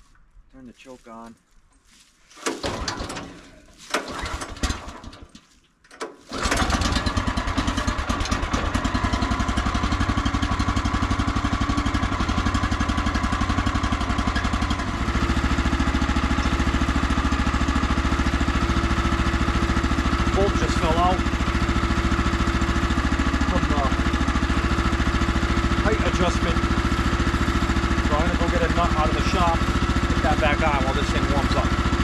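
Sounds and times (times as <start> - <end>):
engine being cranked: 2.4 - 32.0
engine running steadily: 6.3 - 32.0.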